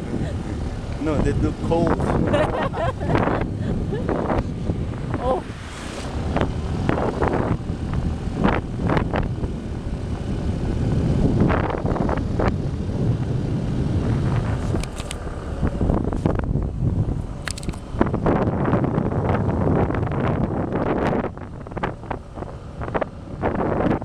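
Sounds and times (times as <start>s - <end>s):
motorcycle engine running: 0.0s - 5.4s, 6.1s - 24.0s
wind buffeting microphone: 0.0s - 24.0s.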